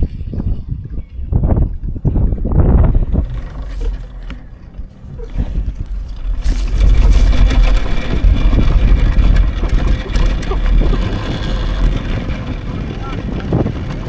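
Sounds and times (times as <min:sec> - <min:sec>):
rush of moving bike: 0:00.0 - 0:14.0
wind rumbling over microphone: 0:00.0 - 0:14.0.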